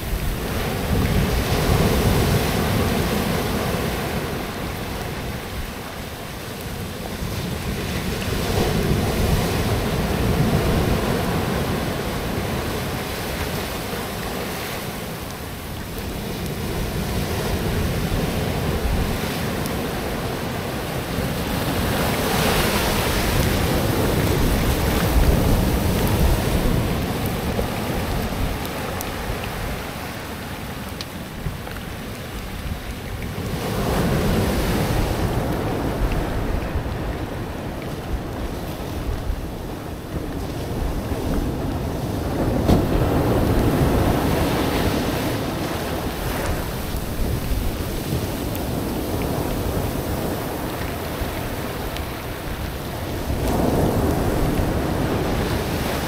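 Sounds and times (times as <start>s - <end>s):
ocean surf washing up: 0.0s - 56.0s
wind rumble on microphone: 0.0s - 56.0s.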